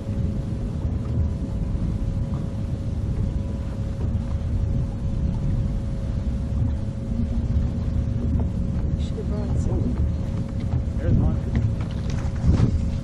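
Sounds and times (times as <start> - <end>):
boat motor whining: 0.0 - 13.0
wind buffeting microphone: 0.0 - 13.0.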